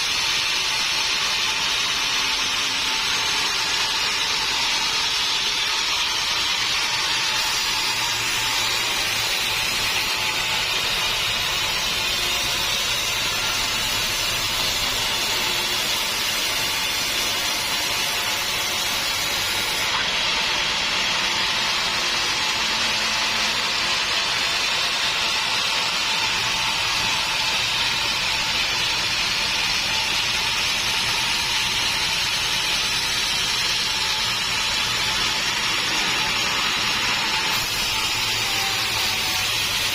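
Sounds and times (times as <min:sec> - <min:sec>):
saw cutting through wood: 0:00.0 - 0:39.9.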